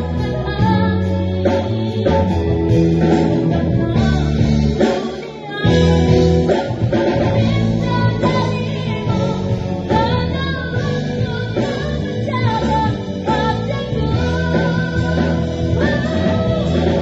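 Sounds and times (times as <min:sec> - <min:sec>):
boy singing into microphone: 0:00.0 - 0:06.2, 0:07.3 - 0:17.0
instrumental accompaniment: 0:00.0 - 0:17.0.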